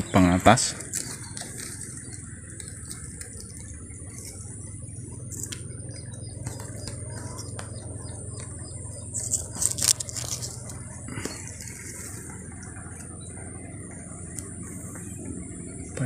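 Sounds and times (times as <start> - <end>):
phone scraping tree bark: 0.0 - 16.0
steady low hum: 0.0 - 16.0.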